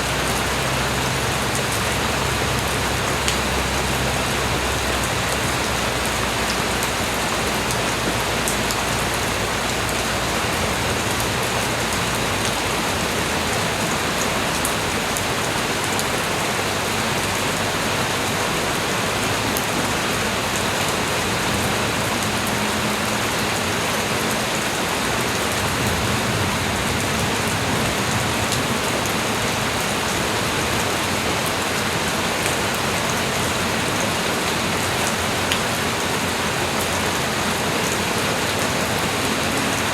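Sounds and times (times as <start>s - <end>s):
light rain hiss: 0.0s - 39.9s
raindrops ticking: 0.0s - 39.9s.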